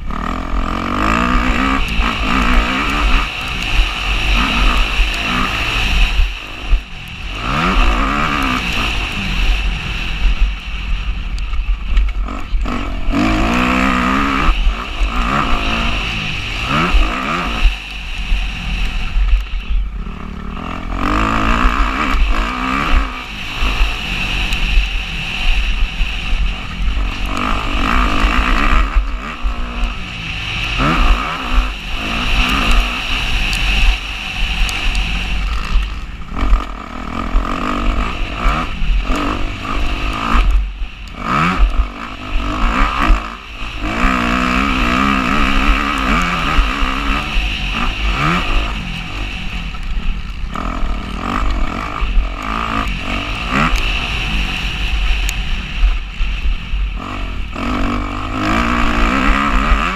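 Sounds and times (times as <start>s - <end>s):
constant low rumble: 0.0s - 59.9s
motocross bike engine revving: 0.0s - 59.9s.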